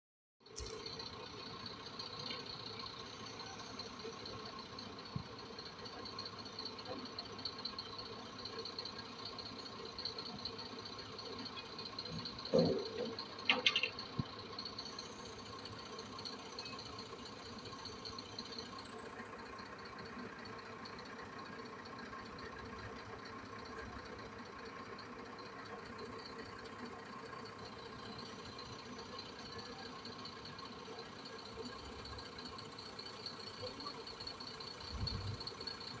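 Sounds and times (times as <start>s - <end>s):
small engine running: 0.4s - 36.0s.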